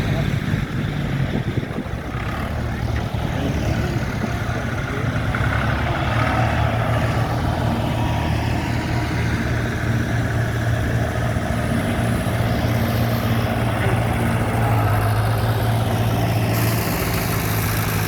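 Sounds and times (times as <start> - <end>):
heavy vehicle engine droning: 0.0 - 18.0.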